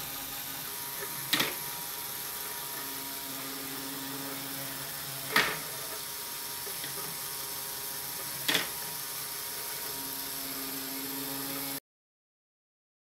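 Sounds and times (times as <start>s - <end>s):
toy motor whirring: 0.0s - 11.8s.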